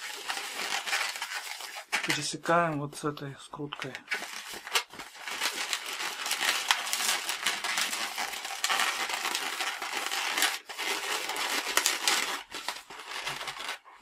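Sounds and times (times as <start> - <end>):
balloons rubbing and squeaking: 0.0 - 3.1, 3.8 - 14.0.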